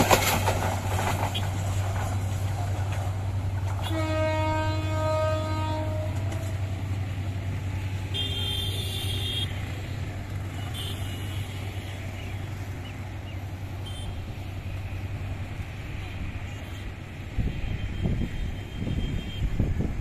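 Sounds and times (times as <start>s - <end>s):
road traffic: 0.0s - 20.0s
train rumbling: 0.0s - 20.0s.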